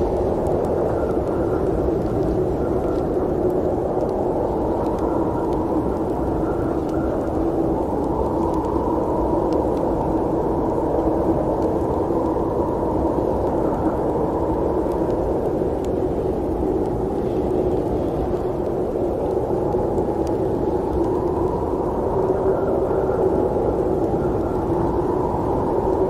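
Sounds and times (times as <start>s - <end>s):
faint ticks: 0.0s - 26.0s
snowstorm wind rushing: 0.0s - 26.0s.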